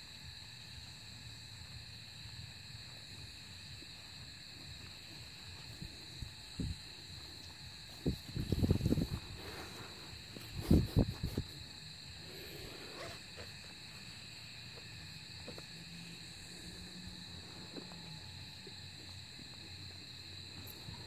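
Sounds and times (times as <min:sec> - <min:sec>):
night insects chorus: 0:00.0 - 0:21.0.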